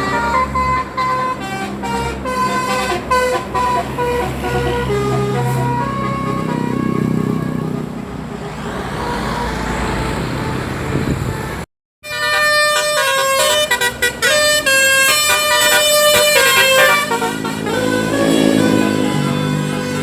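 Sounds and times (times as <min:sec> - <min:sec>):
multi-tone bus horn melody: 0:00.0 - 0:20.0
vehicle engine and road noise: 0:00.0 - 0:20.0.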